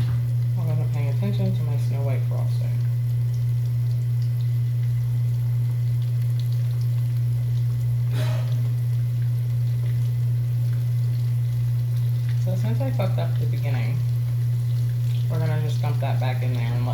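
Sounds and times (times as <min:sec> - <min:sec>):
food frying in hot oil: 0:00.0 - 0:16.9
steady low hum: 0:00.0 - 0:16.9.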